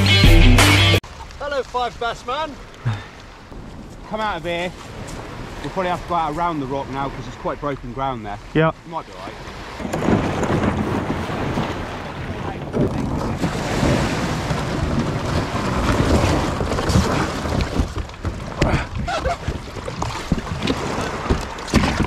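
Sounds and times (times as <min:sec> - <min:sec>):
waves breaking on pebbles: 0:01.0 - 0:22.0
wind buffeting microphone: 0:02.3 - 0:22.0.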